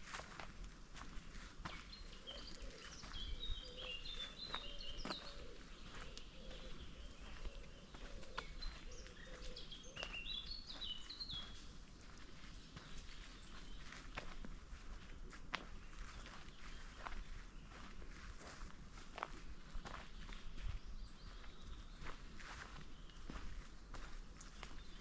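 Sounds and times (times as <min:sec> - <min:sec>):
footsteps on forest trail: 0:00.0 - 0:25.0
songbird singing: 0:00.1 - 0:25.0.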